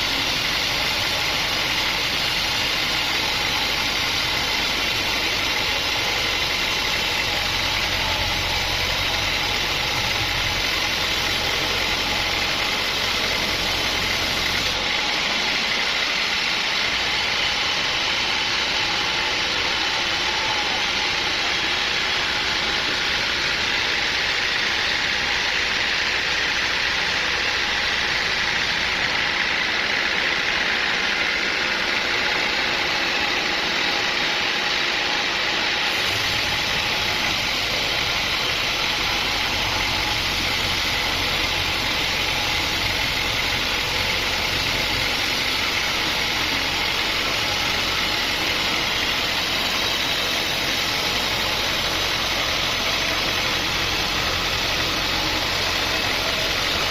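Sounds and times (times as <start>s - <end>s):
sawmill machinery drone: 0.0s - 56.9s.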